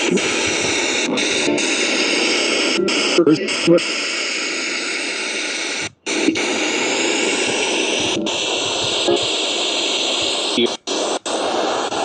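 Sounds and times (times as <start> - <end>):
radio static hiss: 0.0 - 12.0
snatches of broadcast sound: 0.0 - 12.0.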